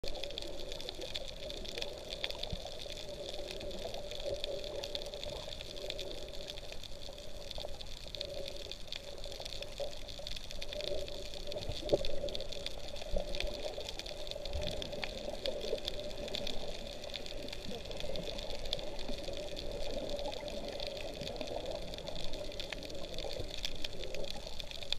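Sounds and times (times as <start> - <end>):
faint clicks and crackles: 0.0 - 24.9.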